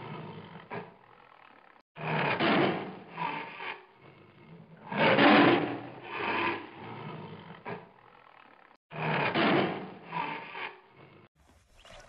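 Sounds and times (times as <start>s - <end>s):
lion roaring: 0.0s - 11.3s.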